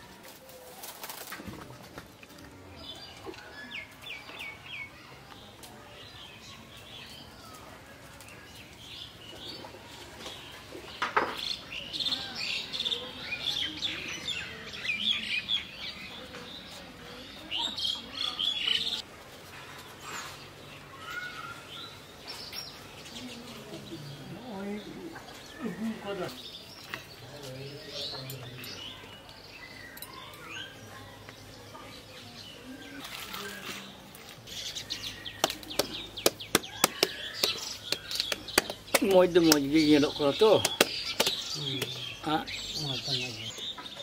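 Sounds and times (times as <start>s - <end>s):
small birds chirping: 2.2s - 44.0s.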